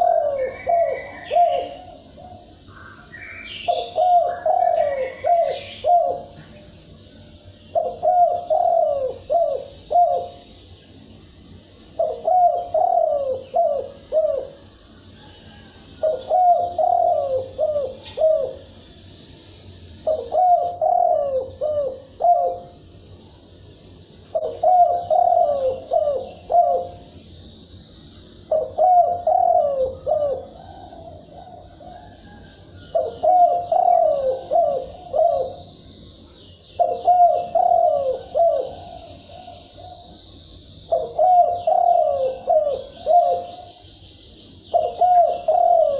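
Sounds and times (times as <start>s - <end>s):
dove cooing: 0.0s - 6.8s, 7.6s - 10.6s, 11.9s - 18.8s, 20.0s - 22.8s, 24.3s - 27.2s, 28.4s - 35.8s, 36.7s - 43.8s, 44.7s - 45.9s
faint high chirping: 0.0s - 45.9s.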